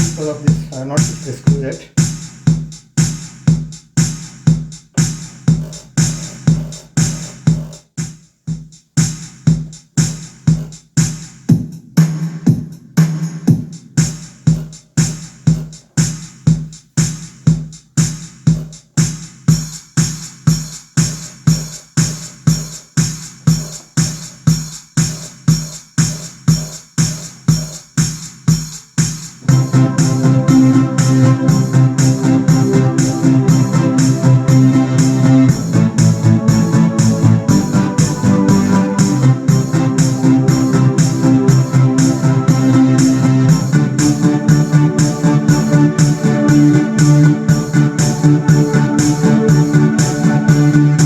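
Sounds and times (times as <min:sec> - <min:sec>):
electronic keyboard drum rhythm: 0:00.0 - 0:51.0.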